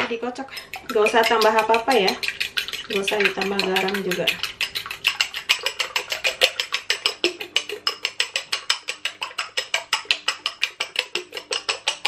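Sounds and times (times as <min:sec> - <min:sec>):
whisk clicking against ceramic bowl: 0:00.4 - 0:12.0.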